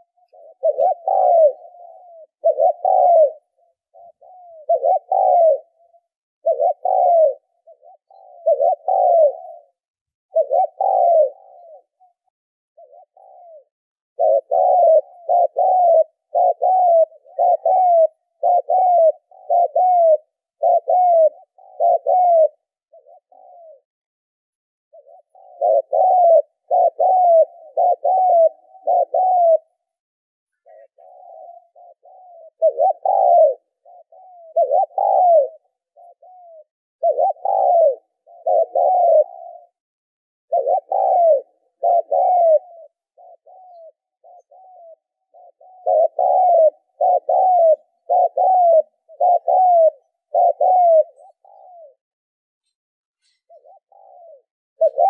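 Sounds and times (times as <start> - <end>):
dove cooing: 0.0 - 23.9, 24.9 - 55.0.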